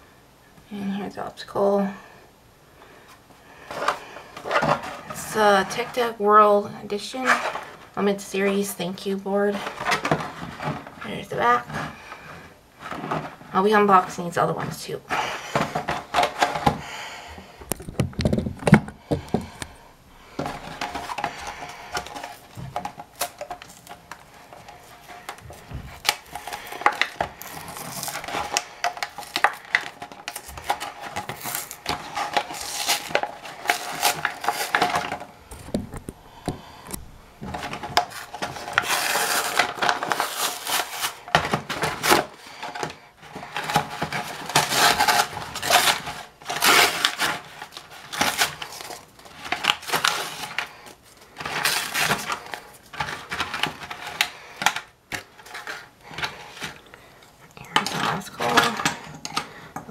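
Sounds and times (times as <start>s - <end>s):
plastic crinkling: 9.4s - 59.9s.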